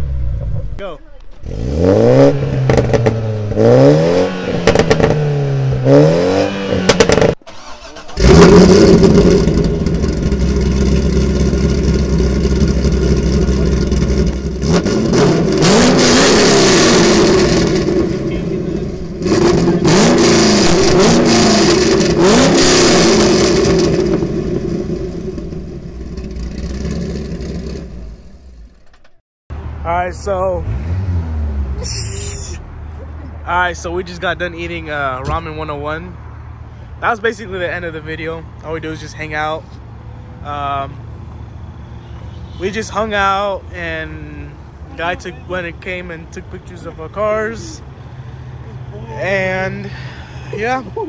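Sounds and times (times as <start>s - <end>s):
car engines revving: 0.0s - 51.0s.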